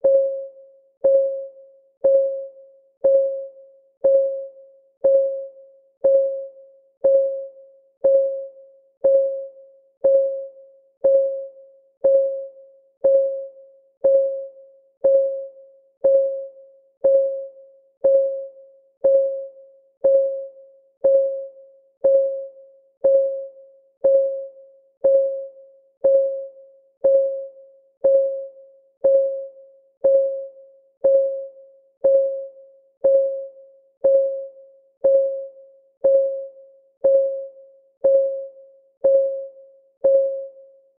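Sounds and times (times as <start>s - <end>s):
countdown timer ticking: 2.0s - 2.4s, 3.0s - 4.4s, 5.0s - 40.6s.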